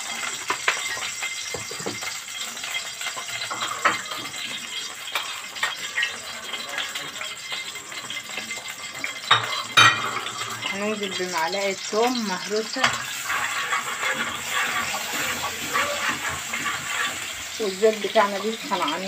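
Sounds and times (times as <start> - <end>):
oil crackling and popping: 0.0 - 19.0.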